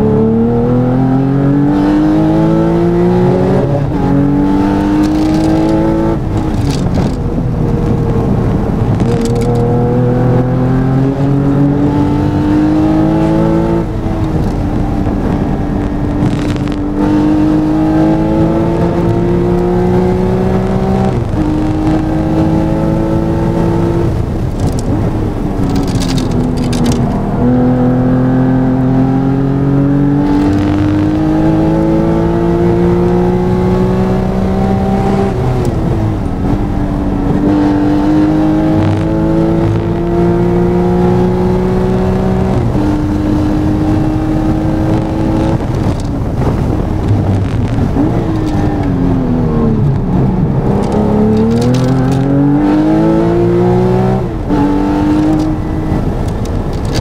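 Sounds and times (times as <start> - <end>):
car engine at racing speed: 0.0 - 57.0.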